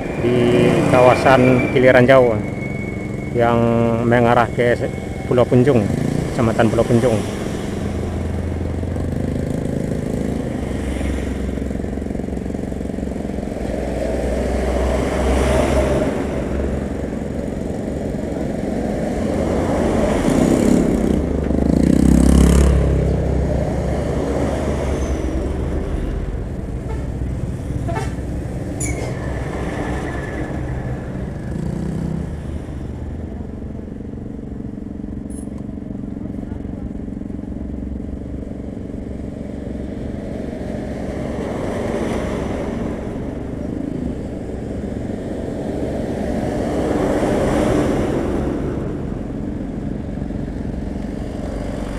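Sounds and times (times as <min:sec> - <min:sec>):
vehicles passing close by: 0:00.0 - 0:51.9.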